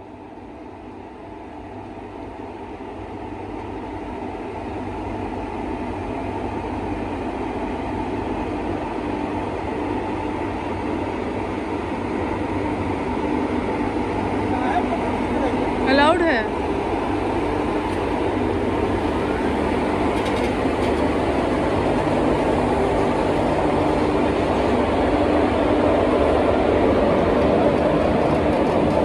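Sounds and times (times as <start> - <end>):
electric locomotive humming: 0.0 - 29.0.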